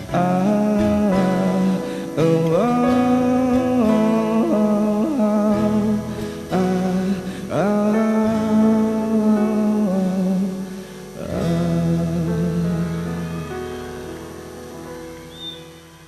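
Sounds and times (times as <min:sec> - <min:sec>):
man singing wordlessly: 0:00.0 - 0:13.6
acoustic guitar strumming: 0:00.0 - 0:16.0.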